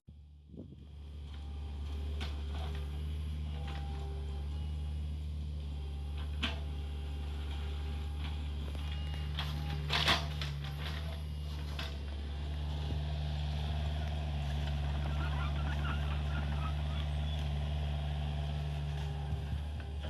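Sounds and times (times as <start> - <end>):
excavator diesel engine droning: 0.1 - 20.0.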